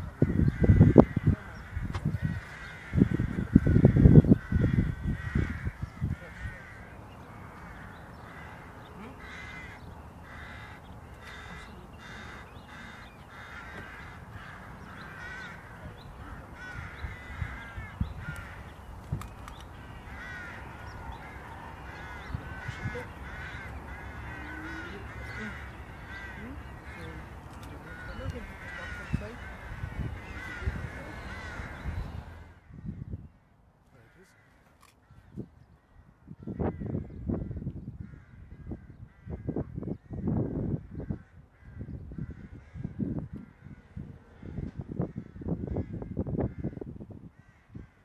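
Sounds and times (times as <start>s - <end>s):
wind buffeting microphone: 0.0s - 34.2s, 35.0s - 48.0s
birds calling: 0.0s - 48.0s.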